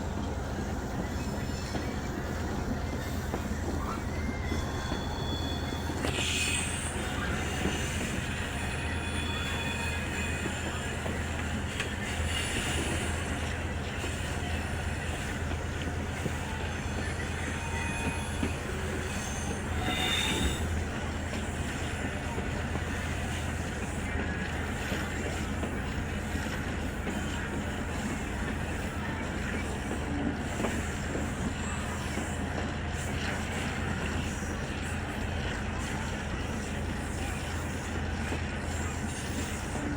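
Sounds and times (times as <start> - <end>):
train wheels rumbling: 0.0 - 39.9
high wheel squeal: 0.1 - 39.9.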